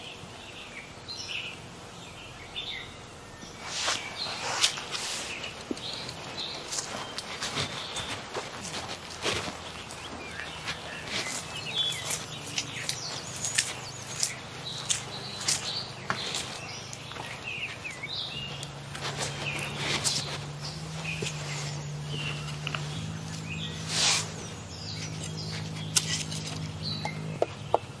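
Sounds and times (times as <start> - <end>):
birds chirping: 0.0 - 28.0
low steady hum: 0.0 - 28.0
sharp knocks and rustles: 3.6 - 27.9.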